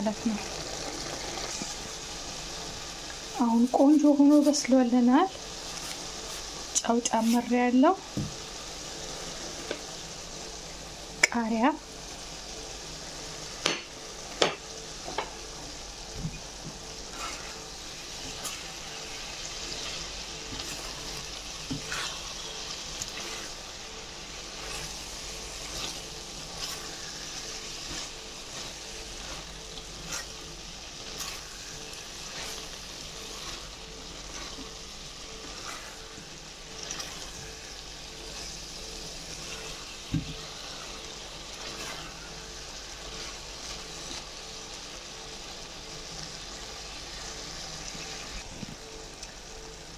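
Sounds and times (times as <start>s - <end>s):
food sizzling in a pot: 0.0s - 49.9s.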